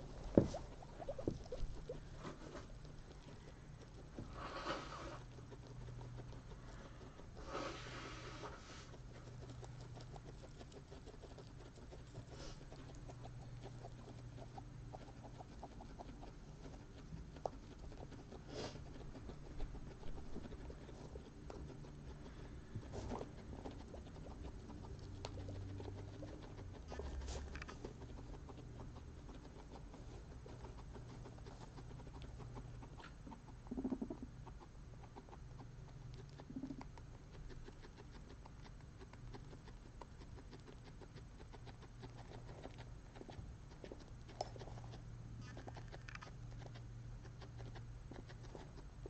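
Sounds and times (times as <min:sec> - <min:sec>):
guinea pigs chewing hay: 0:00.0 - 0:49.0.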